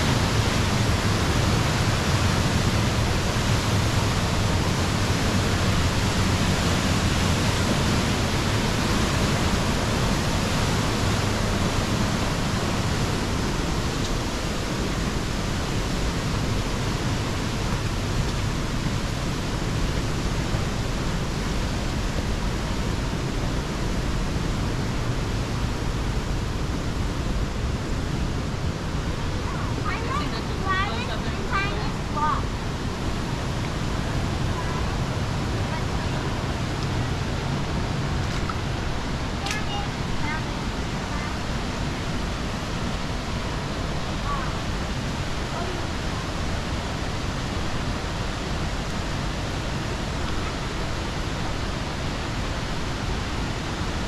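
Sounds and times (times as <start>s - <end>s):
water rushing through rock gorge: 0.0s - 54.0s.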